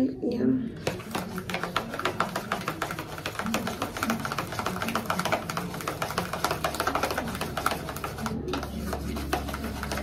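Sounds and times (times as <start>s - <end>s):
brush clicking and scraping in bowl: 0.8s - 10.0s.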